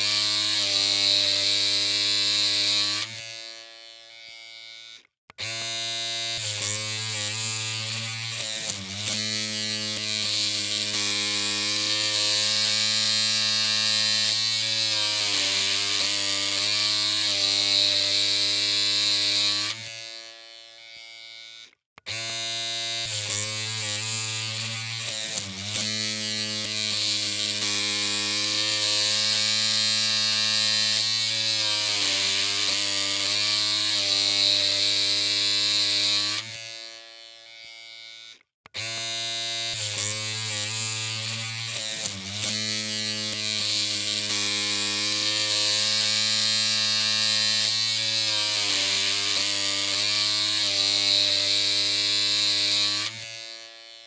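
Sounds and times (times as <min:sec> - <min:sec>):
electric hair clippers buzzing: 0:00.0 - 0:54.0.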